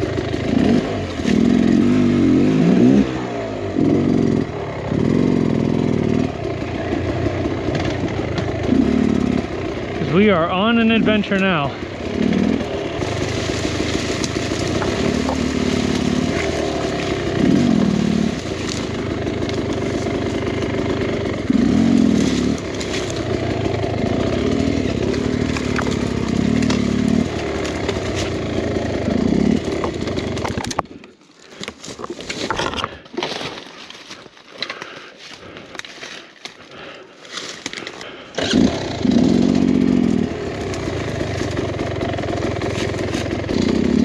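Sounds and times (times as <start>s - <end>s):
dirt bike engine revving: 0.0s - 31.1s, 37.7s - 44.0s.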